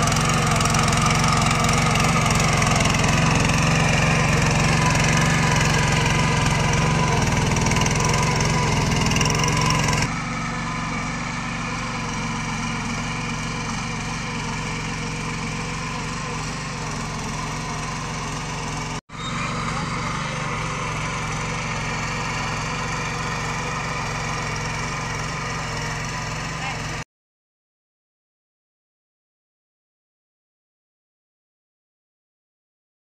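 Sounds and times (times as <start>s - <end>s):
power tiller engine running: 0.0s - 27.0s.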